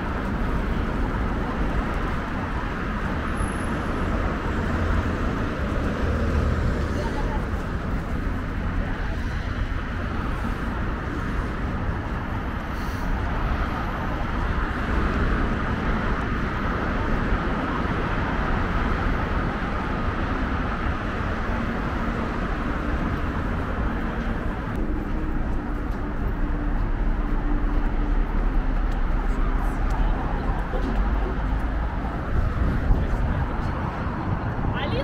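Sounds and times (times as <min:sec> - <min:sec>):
cars passing on street: 0:00.0 - 0:35.0.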